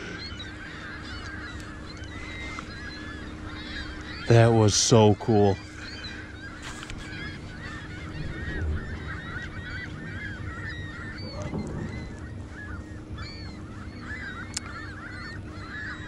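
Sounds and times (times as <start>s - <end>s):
flock of birds calling: 0.0s - 16.0s
low steady rumble: 0.0s - 16.0s.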